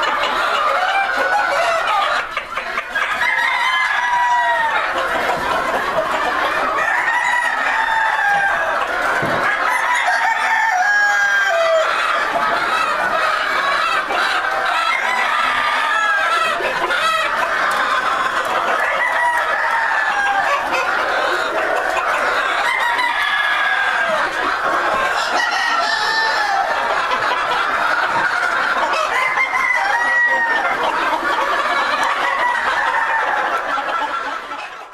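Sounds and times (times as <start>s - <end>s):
chickens clucking: 0.0s - 34.9s
roosters crowing: 0.0s - 34.9s.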